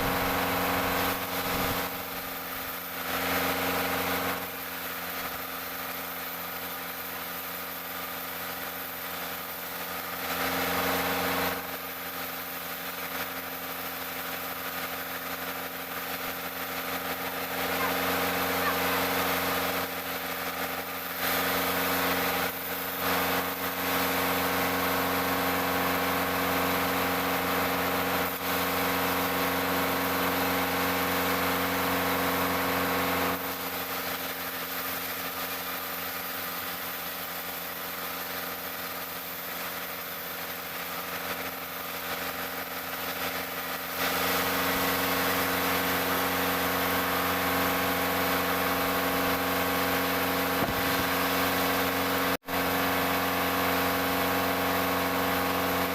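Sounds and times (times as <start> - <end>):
sawmill machinery hum: 0.0 - 55.9.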